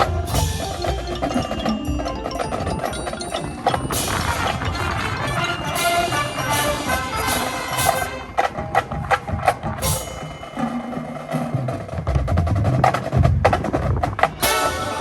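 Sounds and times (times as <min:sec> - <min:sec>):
band rehearsal music: 0:00.0 - 0:11.9, 0:14.2 - 0:15.0
sharp percussion strikes: 0:00.0 - 0:13.1, 0:14.0 - 0:15.0.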